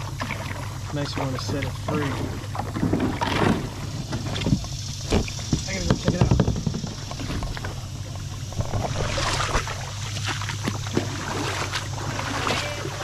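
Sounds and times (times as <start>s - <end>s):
creek water splashing: 0.0s - 13.0s
low steady rumble: 0.0s - 13.0s.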